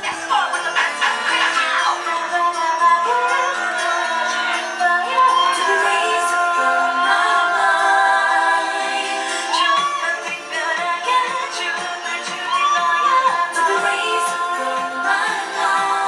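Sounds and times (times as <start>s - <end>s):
pop music: 0.0s - 16.0s
woman singing: 0.9s - 16.0s.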